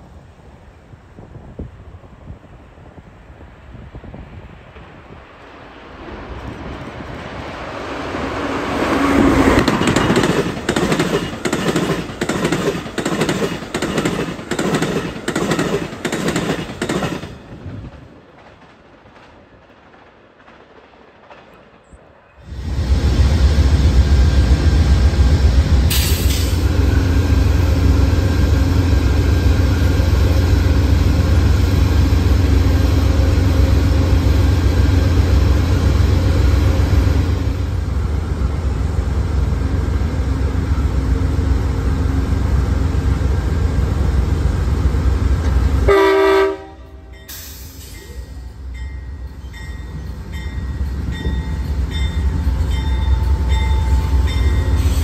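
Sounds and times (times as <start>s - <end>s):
train rumbling past: 0.0s - 55.0s.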